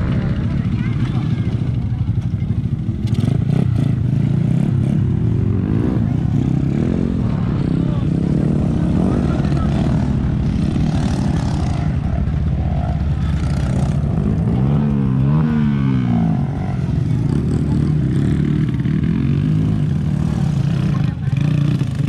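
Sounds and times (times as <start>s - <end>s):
motorcycle engine revving: 0.0s - 22.0s
motorcycle engines running: 0.0s - 22.0s.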